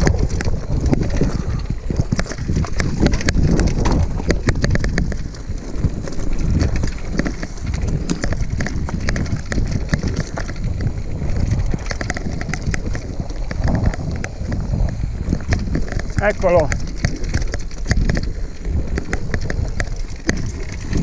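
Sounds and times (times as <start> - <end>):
bike clattering over rocks: 0.0 - 21.0
wind rumble on microphone: 0.0 - 21.0.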